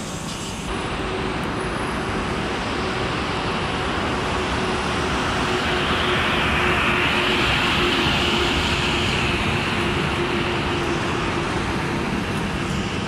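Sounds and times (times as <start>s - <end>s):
train rolling into station: 0.0s - 13.0s.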